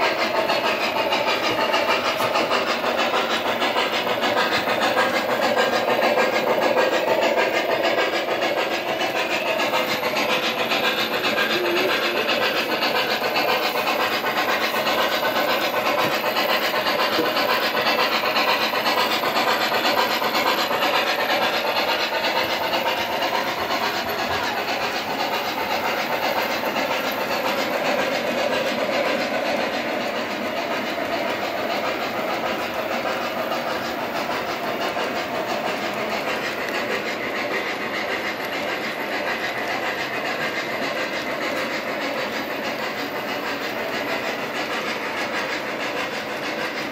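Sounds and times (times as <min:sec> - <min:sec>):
model trains rolling on track: 0:00.0 - 0:46.9.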